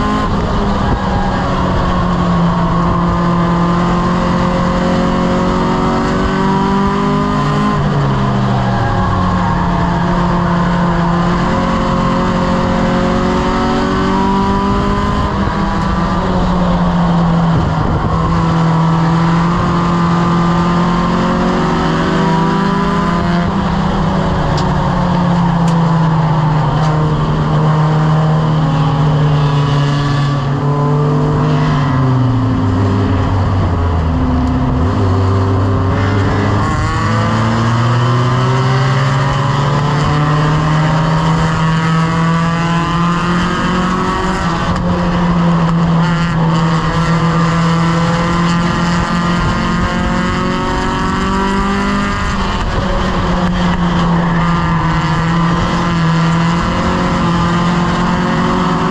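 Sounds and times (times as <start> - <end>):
race car engine at part throttle: 0.0 - 58.9.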